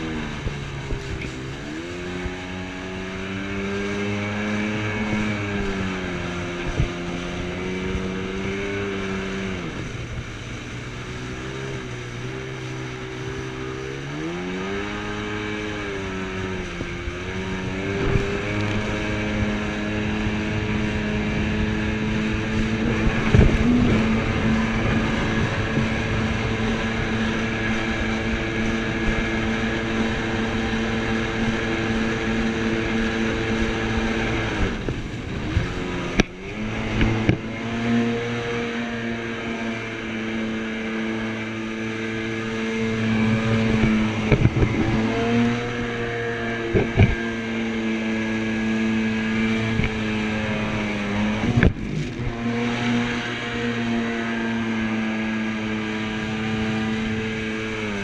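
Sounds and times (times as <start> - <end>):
jet ski engine droning: 0.0 - 58.0.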